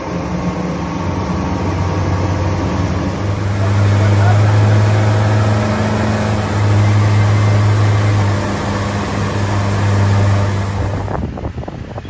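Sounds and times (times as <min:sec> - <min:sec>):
outboard motors droning: 0:00.0 - 0:11.7
churning wake: 0:00.0 - 0:11.9
wind rushing: 0:00.0 - 0:12.0.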